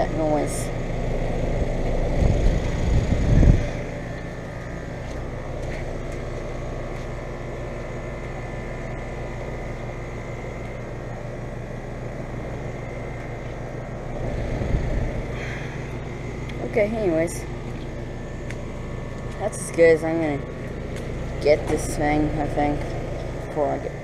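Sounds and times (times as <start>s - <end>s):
air conditioner whirring rush: 0.0s - 24.0s
electrical hum: 0.0s - 24.0s.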